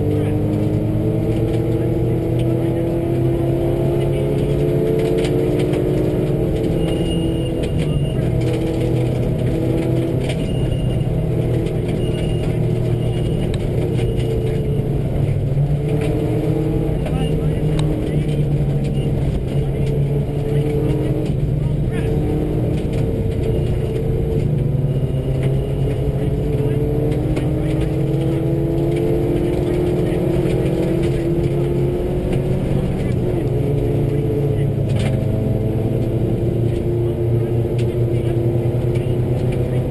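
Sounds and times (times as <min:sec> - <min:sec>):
rally car engine running hard: 0:00.0 - 0:39.9
gravel striking car: 0:04.2 - 0:36.9.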